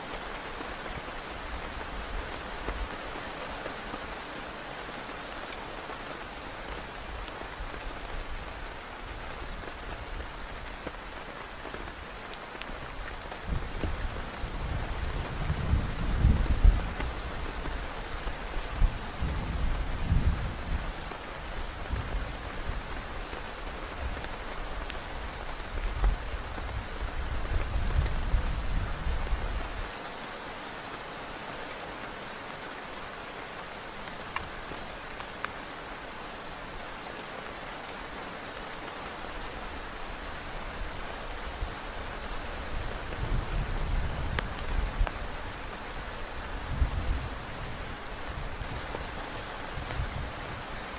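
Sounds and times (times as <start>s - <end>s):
heavy rain on a tent: 0.0s - 50.9s.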